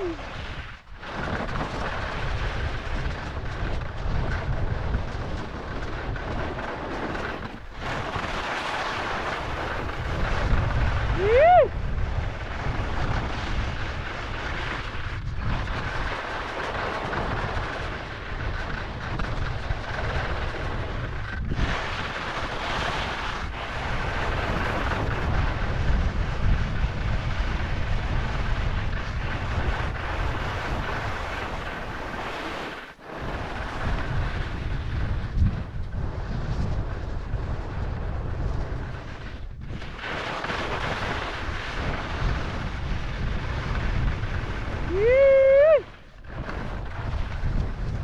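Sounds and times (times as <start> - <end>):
skis sliding on snow: 0.0 - 48.0
wind buffeting microphone: 0.0 - 48.0.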